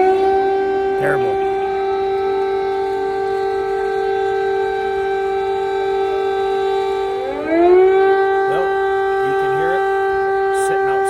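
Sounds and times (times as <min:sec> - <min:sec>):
air-raid siren steady tone: 0:00.0 - 0:11.0.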